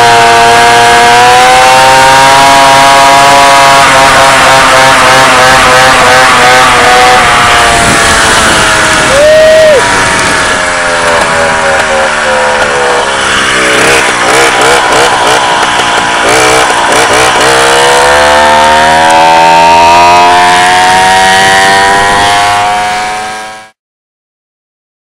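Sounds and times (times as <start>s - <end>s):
moped two-stroke engine running: 0.0s - 23.7s.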